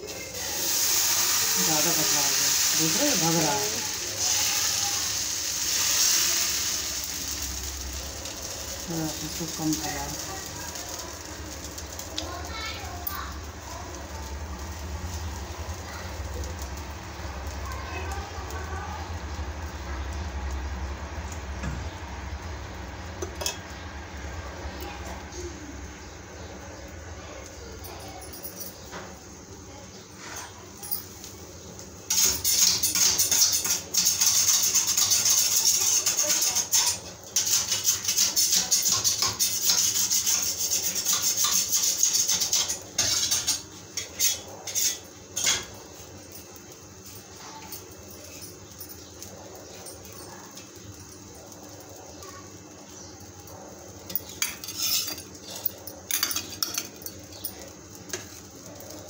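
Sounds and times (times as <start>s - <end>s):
batter sizzling on a pan: 0.0s - 59.0s.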